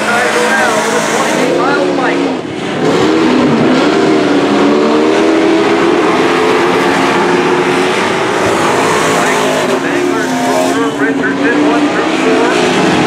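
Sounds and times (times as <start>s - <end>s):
racing truck engines droning: 0.0s - 13.0s.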